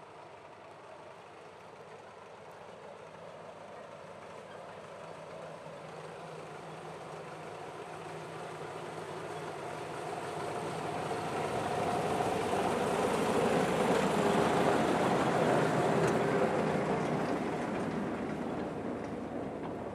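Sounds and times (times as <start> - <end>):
diesel locomotive passing: 0.0 - 19.9.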